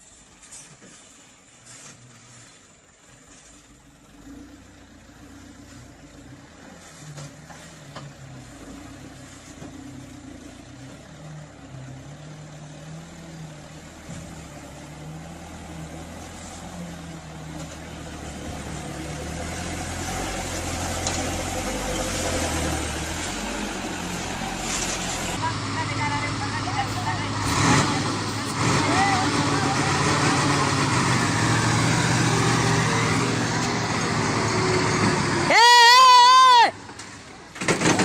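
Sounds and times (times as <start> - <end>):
vehicle engine running: 2.1 - 35.5.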